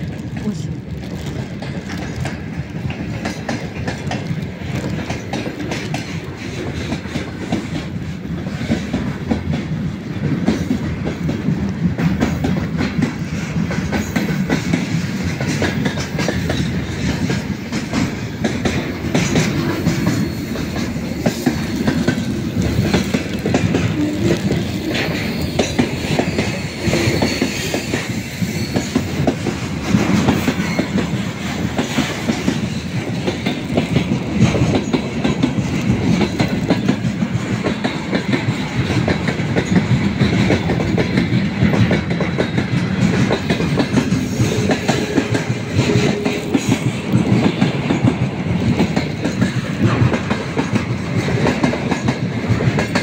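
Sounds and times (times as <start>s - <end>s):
wheels clacking over rail joints: 0.0s - 53.0s.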